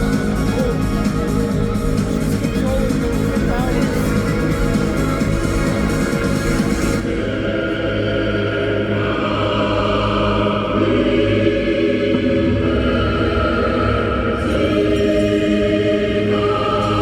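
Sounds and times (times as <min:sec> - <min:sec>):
pop song over sound system: 0:00.0 - 0:17.0.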